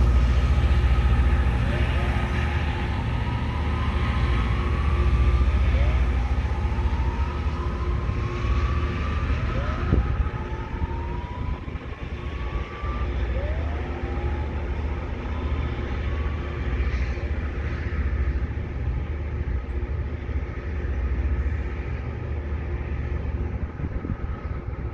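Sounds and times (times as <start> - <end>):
deep diesel rumble: 0.0 - 24.9
rising whine: 0.0 - 24.9
steady whine: 0.0 - 24.9.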